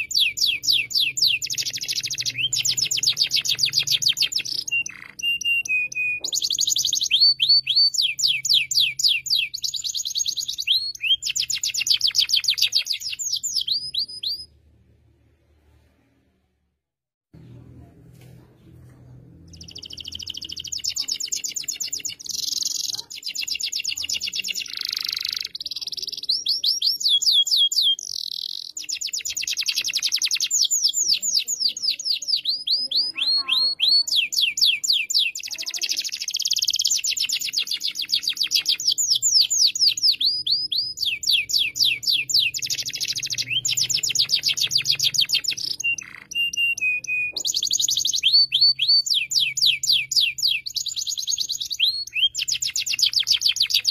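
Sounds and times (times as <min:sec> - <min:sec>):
canary singing trills: 0:00.0 - 0:14.6, 0:19.4 - 0:53.9.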